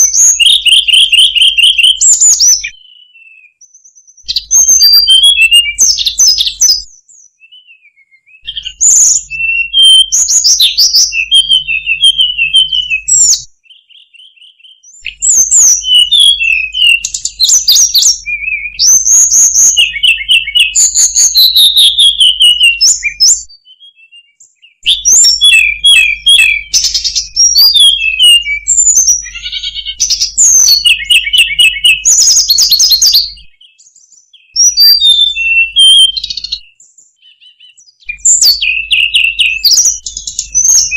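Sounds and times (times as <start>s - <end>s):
bird warbling song with trills: 0.0s - 40.9s.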